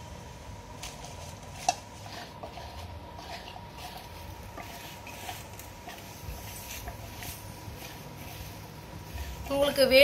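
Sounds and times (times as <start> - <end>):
food rustling in steel bowl: 0.7 - 10.0.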